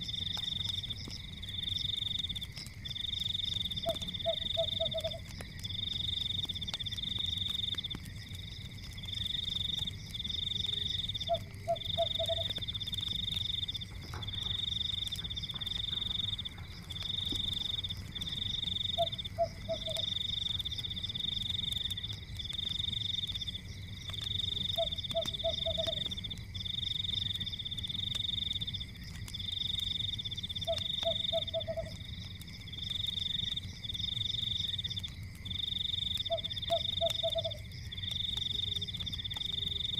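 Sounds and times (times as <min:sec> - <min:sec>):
faint fire crackling: 0:00.0 - 0:39.9.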